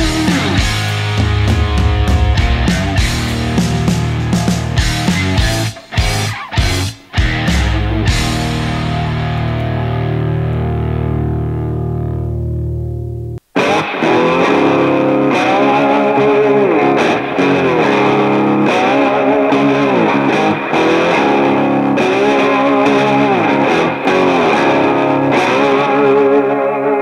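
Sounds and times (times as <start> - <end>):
distorted electric guitar music: 0.0 - 27.0.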